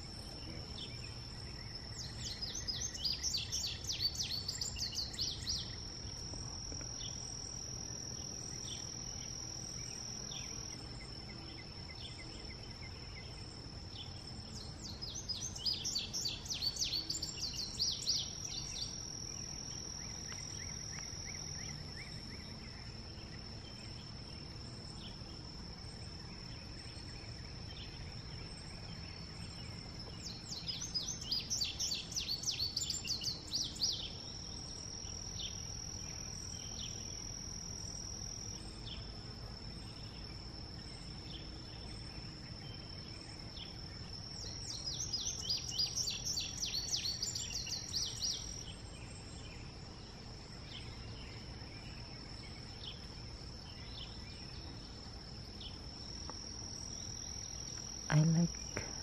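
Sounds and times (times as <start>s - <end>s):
bird song of high notes: 0.0s - 6.3s, 7.0s - 59.0s.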